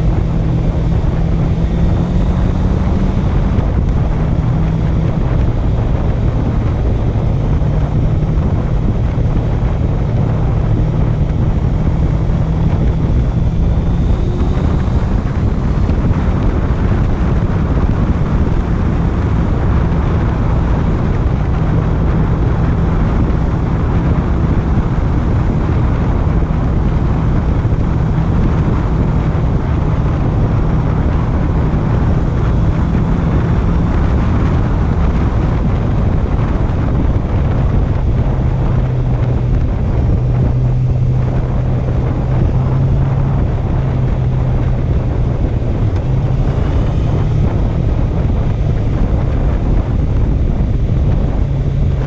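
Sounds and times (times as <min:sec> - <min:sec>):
motorcycle engine running: 0:00.0 - 0:52.0
wind noise on microphone: 0:00.0 - 0:52.0.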